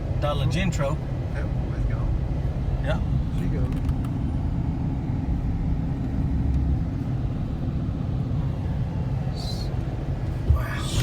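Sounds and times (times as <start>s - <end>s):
vehicle engine and tyre rumble: 0.0s - 11.0s.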